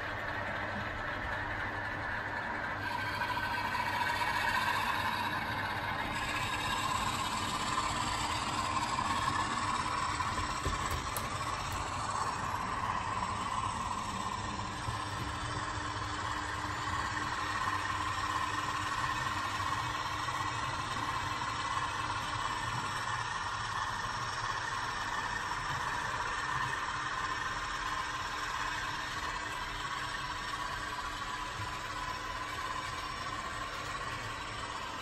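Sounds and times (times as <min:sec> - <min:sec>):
model locomotive running on track: 0:00.0 - 0:35.0.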